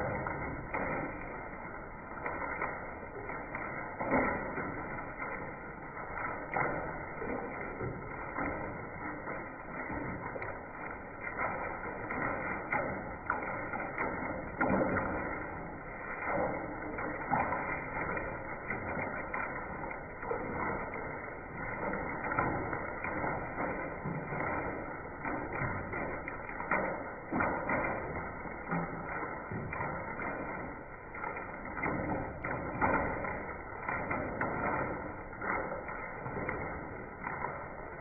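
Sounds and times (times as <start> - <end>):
hailstones clattering: 0.0 - 38.0
rush of falling hail and rain: 0.0 - 38.0.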